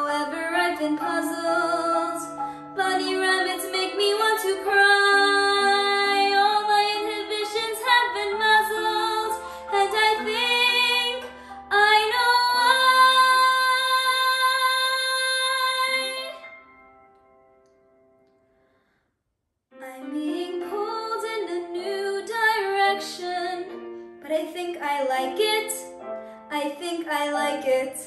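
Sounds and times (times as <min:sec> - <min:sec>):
woman singing: 0:00.0 - 0:16.4, 0:19.8 - 0:25.9, 0:26.5 - 0:28.0.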